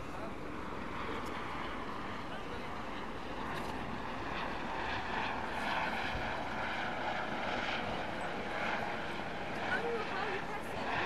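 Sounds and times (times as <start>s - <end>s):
outdoor city noise: 0.0s - 11.0s.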